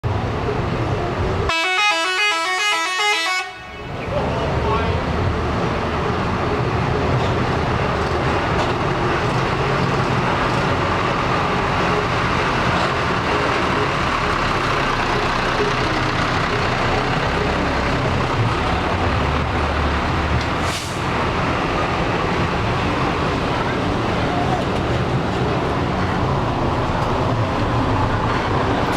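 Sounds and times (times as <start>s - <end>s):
bus diesel engine running: 0.0s - 28.9s.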